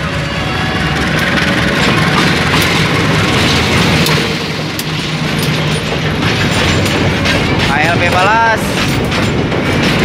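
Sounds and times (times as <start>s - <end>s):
diesel locomotive engine drone: 0.0s - 10.0s
wagon wheels clicking over rails: 1.2s - 10.0s.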